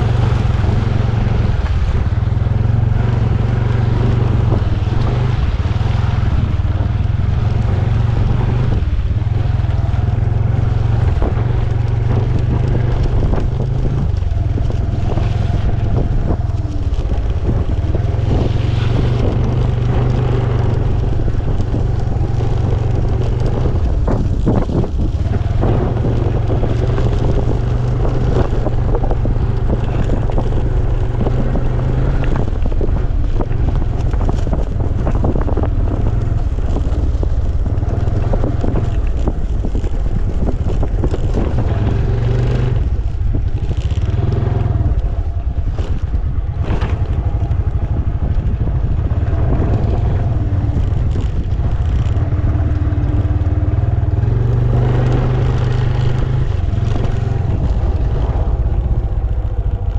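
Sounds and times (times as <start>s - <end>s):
motor scooter engine running: 0.0s - 59.9s.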